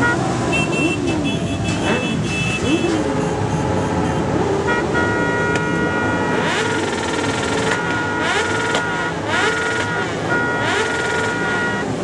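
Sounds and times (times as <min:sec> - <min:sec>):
engines revving: 0:00.0 - 0:12.0
vehicle horns blasting: 0:00.0 - 0:12.0.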